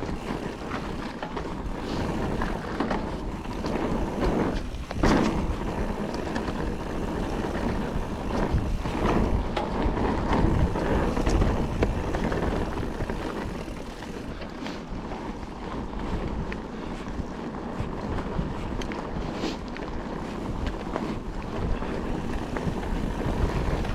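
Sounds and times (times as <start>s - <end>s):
bike clicks and rattles: 0.0s - 23.9s
bike tyres crunching on gravel: 0.0s - 23.9s
wind buffeting microphone: 0.0s - 23.9s.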